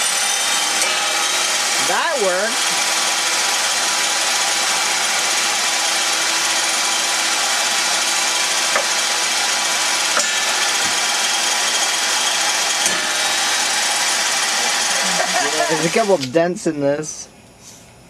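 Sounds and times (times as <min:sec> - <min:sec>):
table saw running: 0:00.0 - 0:16.3.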